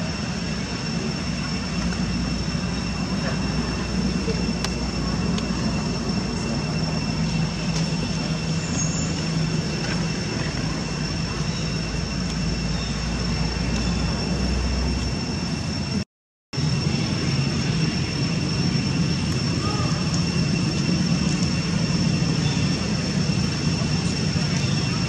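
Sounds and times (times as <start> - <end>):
outdoor drone with low hum: 0.0 - 25.0.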